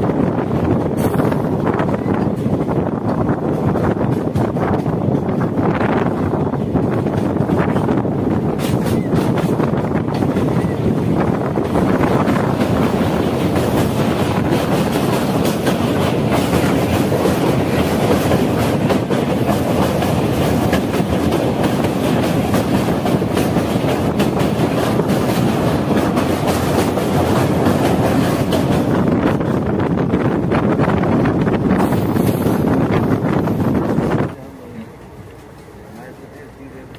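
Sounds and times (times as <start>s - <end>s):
train wheels rumbling and clicking: 0.0s - 36.9s.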